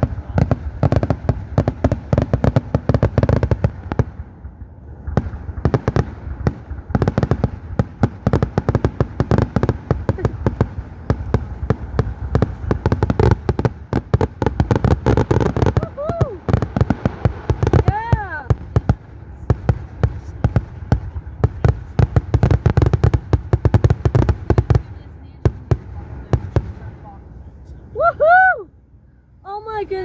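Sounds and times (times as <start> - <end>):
fireworks bangs and crackles: 0.0 - 27.5.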